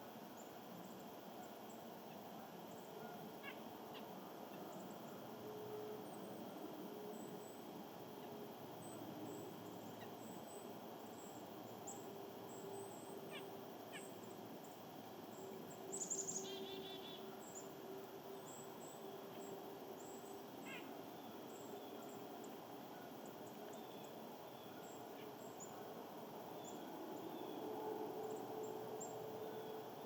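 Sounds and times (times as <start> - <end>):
background hiss: 0.0 - 30.0
faint steady hum: 0.0 - 30.0
songbirds chipping and twittering: 0.0 - 30.0.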